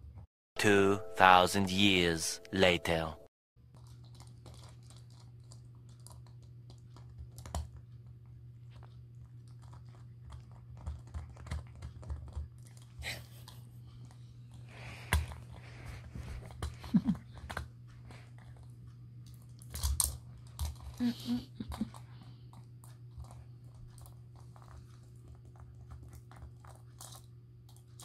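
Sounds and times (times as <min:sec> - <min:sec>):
puppy chewing plastic toy: 0:03.7 - 0:21.0, 0:21.7 - 0:28.0.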